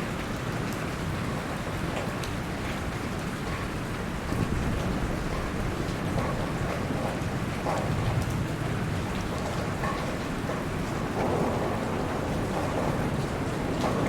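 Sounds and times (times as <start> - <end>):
rain falling on a lake: 0.0 - 14.0.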